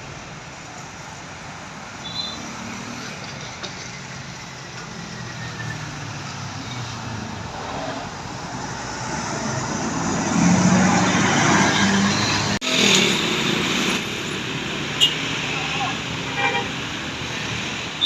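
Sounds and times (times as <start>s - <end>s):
bus engine and tyres: 0.0s - 18.0s.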